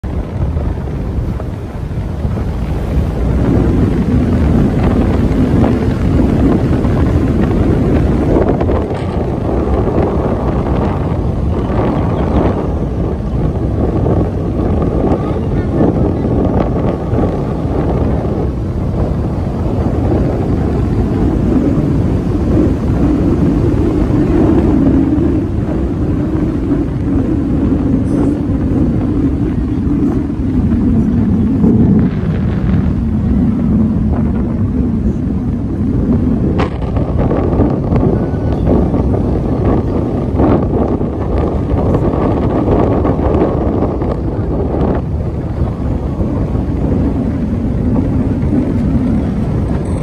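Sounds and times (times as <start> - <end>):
low drone: 0.0 - 50.0
low rumble of vehicle and road: 0.0 - 50.0
wind buffeting microphone: 0.0 - 50.0.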